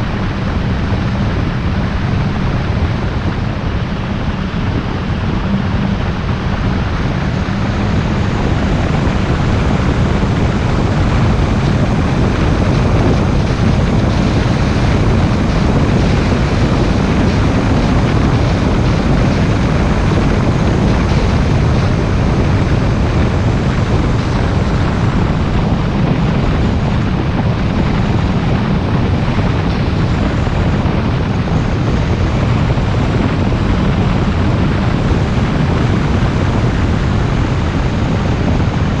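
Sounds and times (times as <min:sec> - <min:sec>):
car tyres and engine rumble: 0:00.0 - 0:39.0
wind on microphone: 0:00.0 - 0:39.0.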